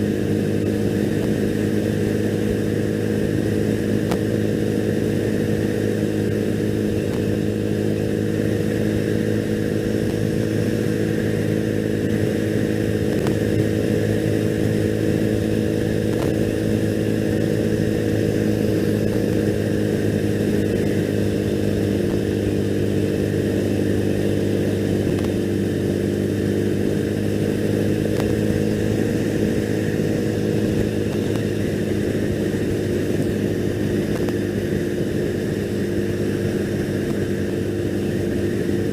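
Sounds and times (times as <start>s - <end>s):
motorcycle engine cruising: 0.0s - 38.9s
road and wind noise: 0.0s - 38.9s.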